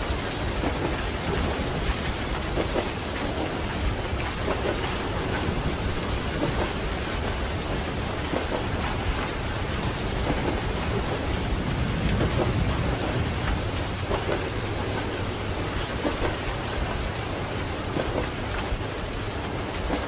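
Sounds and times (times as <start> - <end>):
steady rain: 0.0 - 20.0
train carriage rumbling: 0.0 - 20.0.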